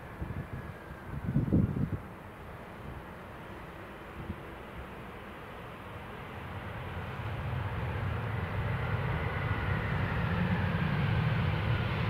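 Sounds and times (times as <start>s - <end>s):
jet engine rumble with whine: 0.0s - 12.0s.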